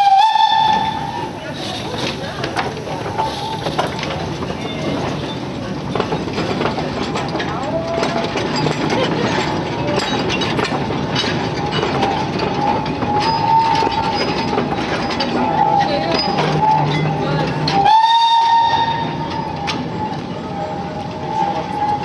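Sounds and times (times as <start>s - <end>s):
passengers chattering: 0.0s - 22.0s
steam locomotive rolling: 0.0s - 22.0s
wheels clicking over rail joints: 0.0s - 22.0s.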